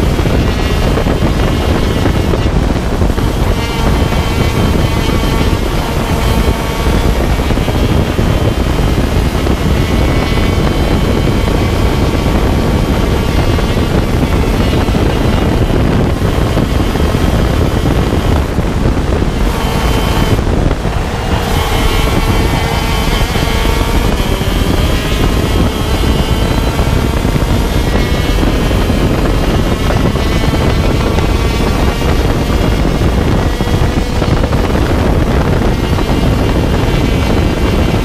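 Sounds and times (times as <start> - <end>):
kart engine racing: 0.0 - 38.0
wind buffeting microphone: 0.0 - 38.0.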